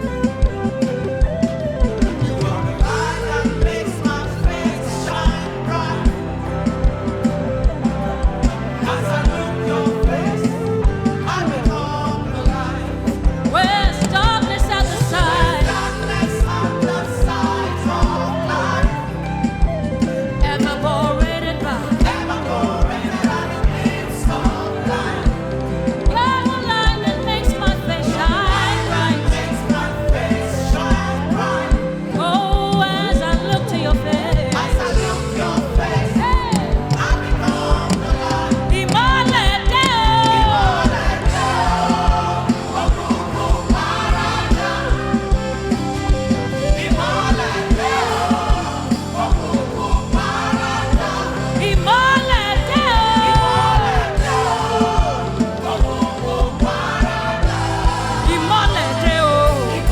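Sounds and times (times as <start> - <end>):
gospel band drums: 0.0 - 59.9
voices singing: 0.0 - 59.9.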